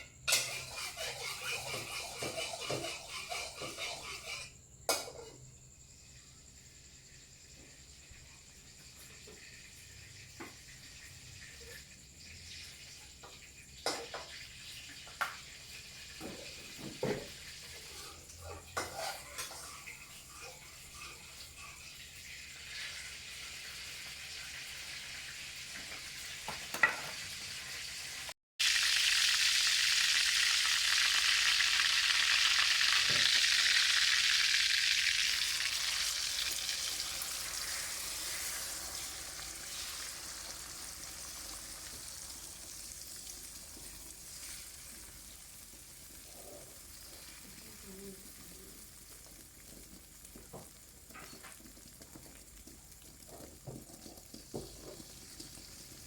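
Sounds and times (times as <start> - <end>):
food frying in hot oil: 0.0 - 56.0.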